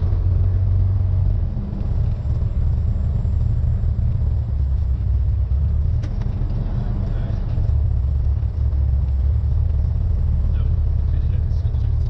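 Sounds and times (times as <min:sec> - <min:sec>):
airplane engine drone in cabin: 0:00.0 - 0:12.0.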